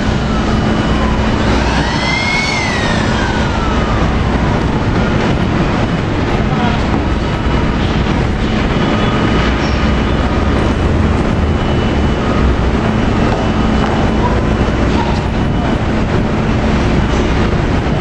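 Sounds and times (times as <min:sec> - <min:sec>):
faint steady whine: 0:00.0 - 0:18.0
industrial machinery rumble: 0:00.0 - 0:18.0.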